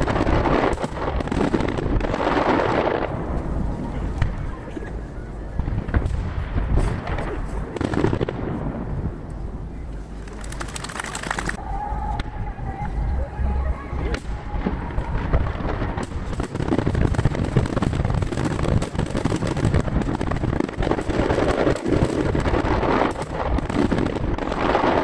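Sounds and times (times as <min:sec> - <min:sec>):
distant fireworks bursting: 0:00.0 - 0:25.0.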